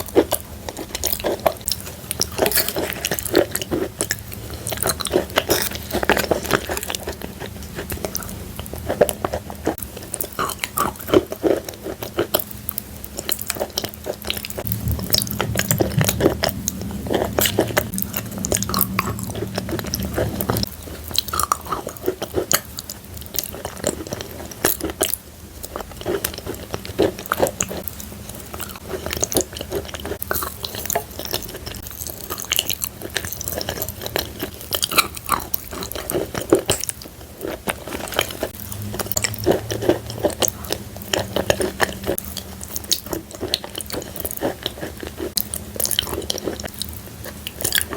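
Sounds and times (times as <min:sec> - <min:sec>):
chewing crunchy chalk: 0:00.0 - 0:47.9.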